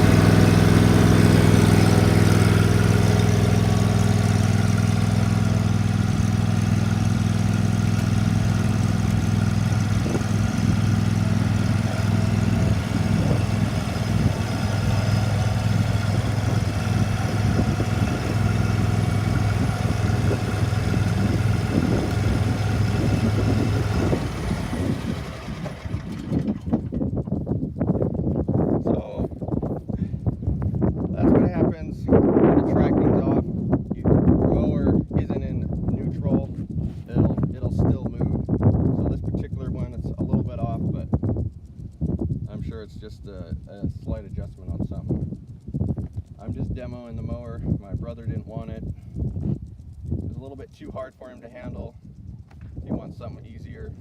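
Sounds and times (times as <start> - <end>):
lawn mower engine running: 0.0 - 54.0.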